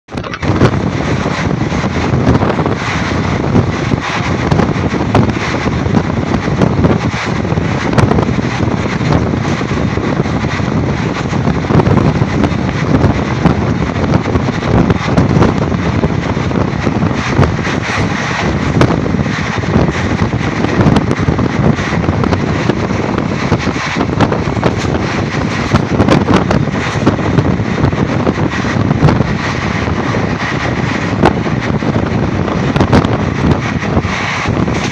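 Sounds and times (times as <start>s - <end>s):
train wheels on rails: 0.1s - 34.9s
wind on microphone: 0.1s - 34.9s.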